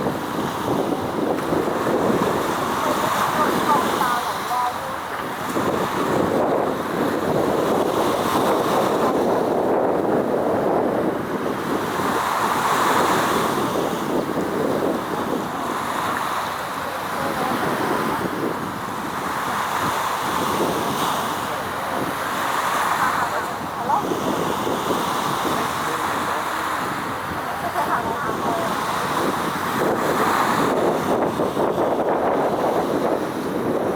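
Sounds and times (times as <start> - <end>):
waves rushing: 0.0 - 33.9
wind buffeting microphone: 0.0 - 33.9.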